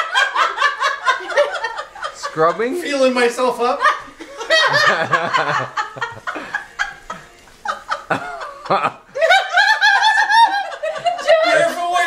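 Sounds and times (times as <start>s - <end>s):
people snickering and laughing: 0.0s - 12.0s.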